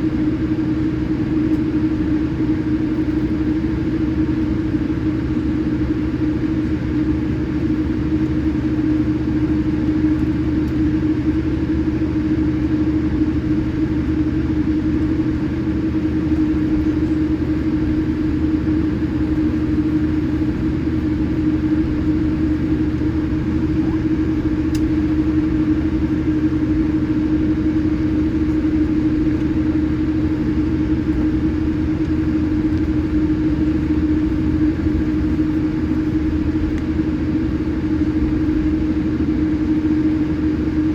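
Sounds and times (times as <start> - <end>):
airplane cabin engine drone: 0.0 - 40.9
constant low hum: 0.0 - 40.9.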